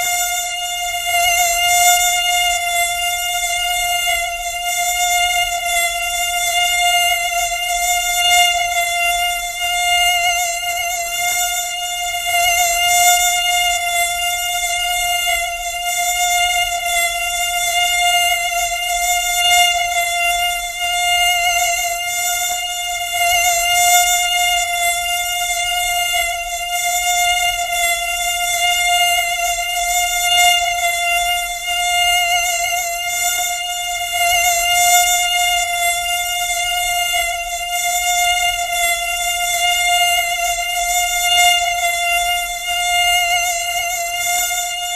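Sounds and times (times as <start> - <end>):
mosquito whine: 0.0 - 44.9.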